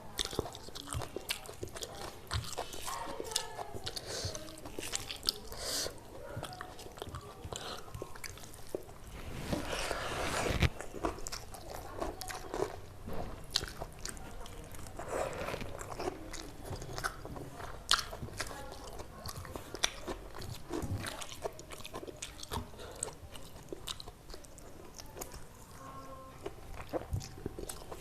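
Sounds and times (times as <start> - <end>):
wet chewing: 0.0 - 28.0.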